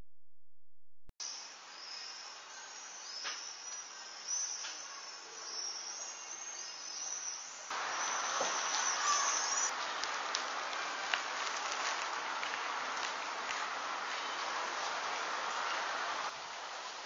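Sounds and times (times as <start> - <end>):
steady rush of outdoor noise: 1.2 - 17.0.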